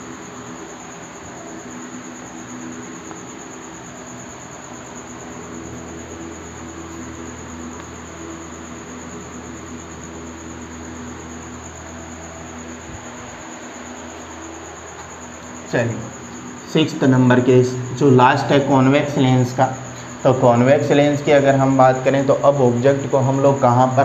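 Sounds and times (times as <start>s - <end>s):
even hiss: 0.0s - 24.0s
low hum: 0.0s - 24.0s.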